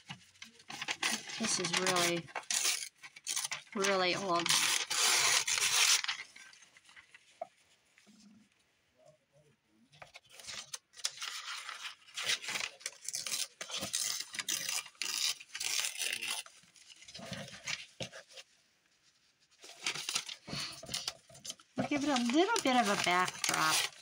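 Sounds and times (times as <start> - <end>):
old paper rustling: 0.0 - 8.1, 10.0 - 24.0.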